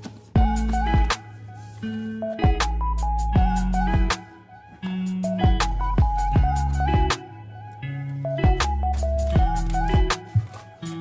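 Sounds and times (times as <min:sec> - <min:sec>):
music with beat and plucked notes: 0:00.0 - 0:11.0.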